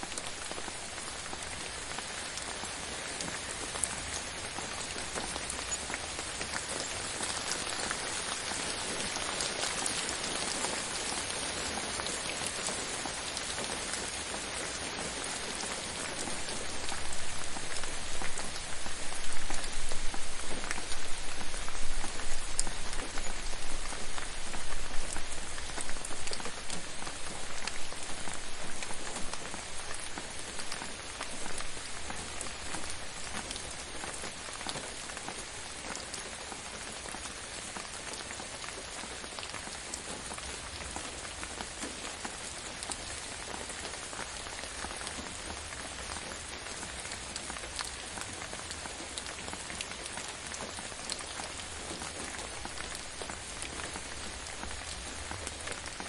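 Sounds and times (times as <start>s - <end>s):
gentle rain pattering: 0.0s - 56.0s.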